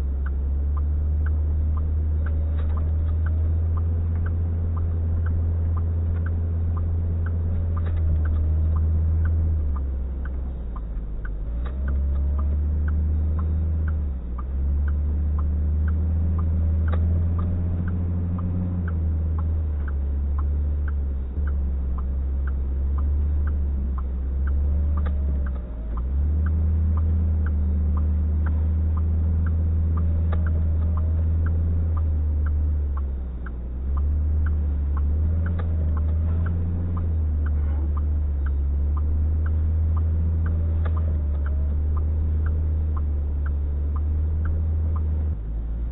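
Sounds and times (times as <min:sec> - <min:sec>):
light even ticking: 0:00.0 - 0:45.9
vehicle rumble: 0:00.0 - 0:45.9.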